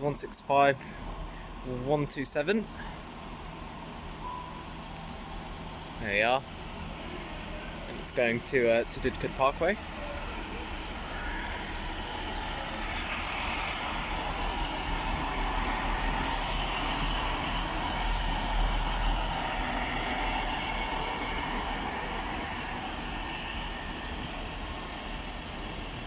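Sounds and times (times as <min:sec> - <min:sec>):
diesel train running slowly: 0:00.0 - 0:26.0.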